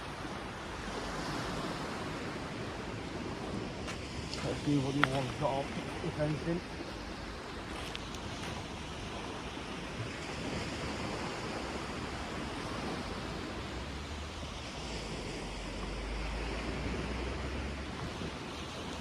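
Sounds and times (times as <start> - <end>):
sea surf washing on beach: 0.0 - 19.0
wind buffeting microphone: 0.0 - 19.0.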